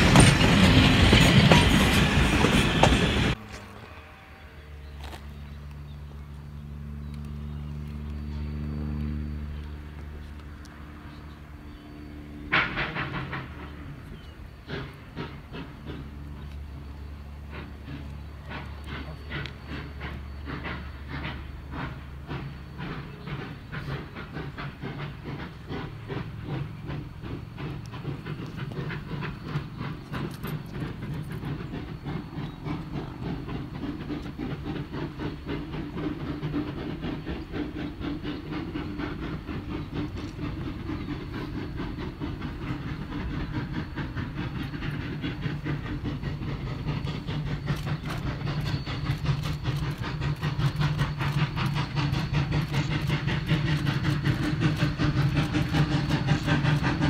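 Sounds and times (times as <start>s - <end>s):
steam train hissing: 0.0s - 3.4s, 8.2s - 57.0s.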